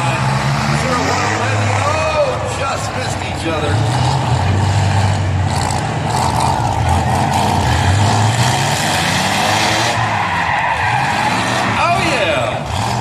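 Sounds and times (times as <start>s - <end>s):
truck engines running and revving: 0.0s - 13.0s.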